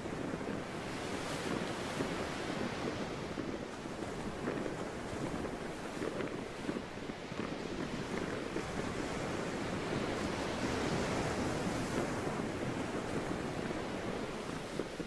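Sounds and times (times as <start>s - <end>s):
sea waves washing: 0.0s - 15.0s
wind: 0.0s - 15.0s.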